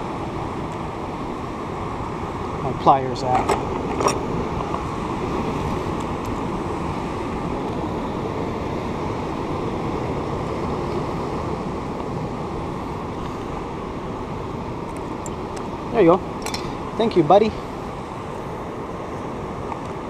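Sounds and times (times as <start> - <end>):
ocean surf: 0.0 - 20.0
wind: 0.0 - 20.0.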